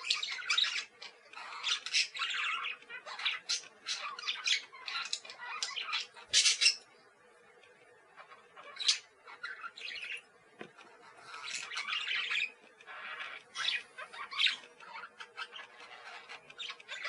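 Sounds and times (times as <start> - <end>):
parakeets squawking and chirping: 0.0 - 7.0, 8.1 - 17.0.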